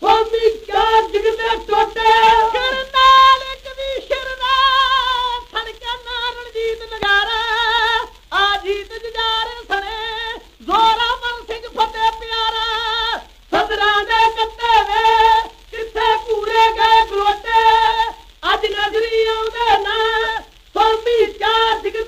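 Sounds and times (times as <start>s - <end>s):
voices singing long wavering notes: 0.0s - 22.0s.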